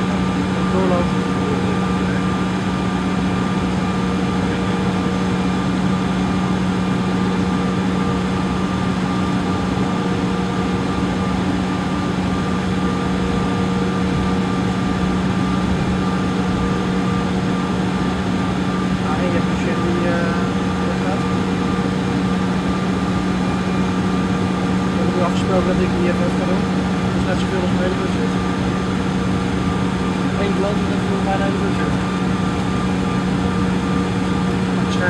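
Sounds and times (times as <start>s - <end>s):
jet engines droning in cabin: 0.0s - 35.0s.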